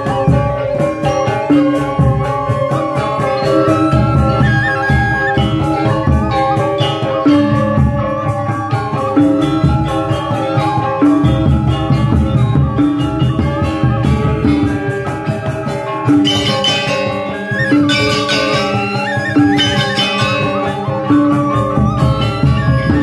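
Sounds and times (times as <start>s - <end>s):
hand drums: 0.0s - 23.0s
metal-keyed percussion ringing: 0.0s - 23.0s.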